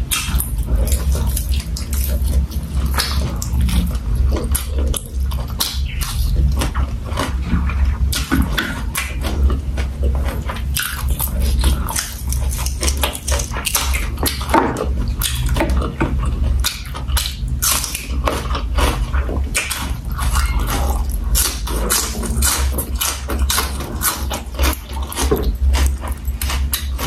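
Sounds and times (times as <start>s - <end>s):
chewing with wet lip smacks: 0.0s - 27.0s
crunching of raw vegetables: 0.0s - 27.0s
low steady hum: 0.0s - 27.0s.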